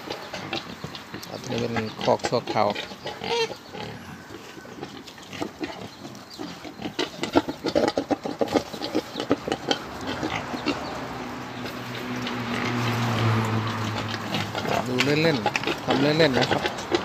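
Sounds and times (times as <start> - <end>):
pigs grunting: 0.0 - 17.0.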